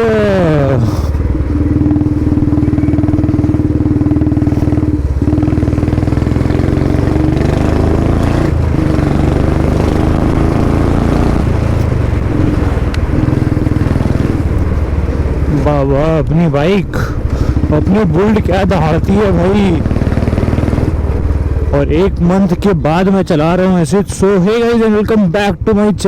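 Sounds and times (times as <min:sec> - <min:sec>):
motorcycle engine thumping: 0:00.0 - 0:23.5.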